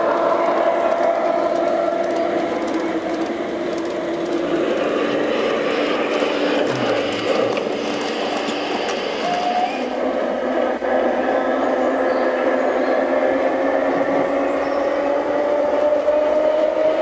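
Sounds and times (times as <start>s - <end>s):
model train motor hum: 0.0s - 15.0s
wheels rolling on track: 0.0s - 17.0s.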